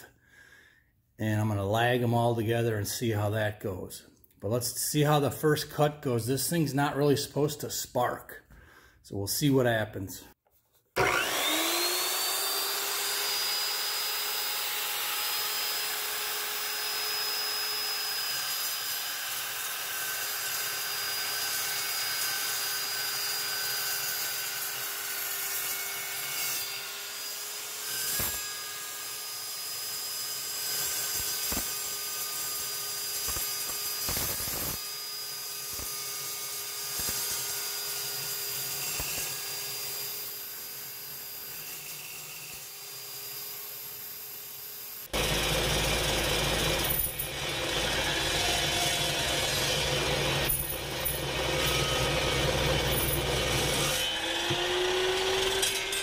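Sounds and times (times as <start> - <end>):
chop saw cutting steel: 11.0 - 56.0.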